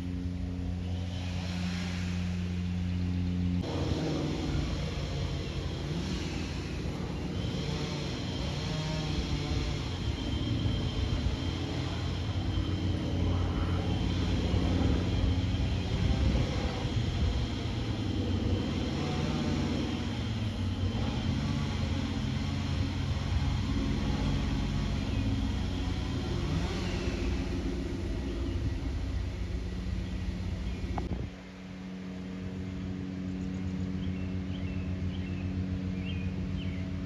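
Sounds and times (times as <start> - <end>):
propeller aircraft flying overhead: 0.0 - 37.0.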